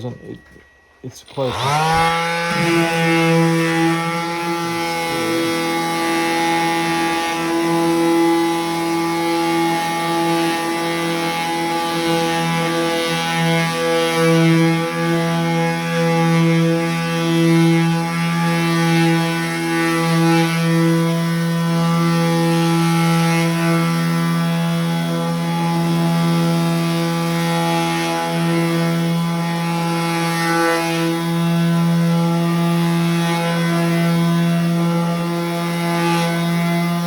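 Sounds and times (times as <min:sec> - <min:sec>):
electric sander motor whine: 0:00.0 - 0:37.0.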